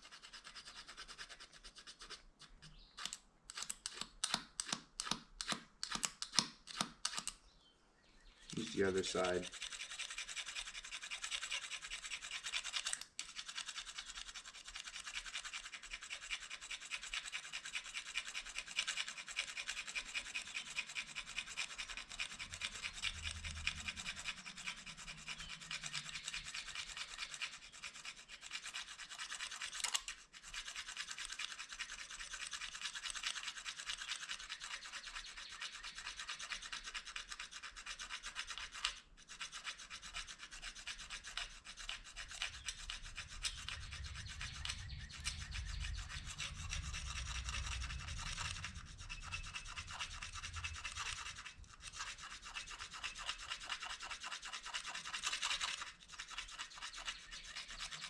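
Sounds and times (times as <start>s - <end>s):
plastic fork scraping plastic spoon: 0.0s - 7.3s, 8.5s - 58.0s.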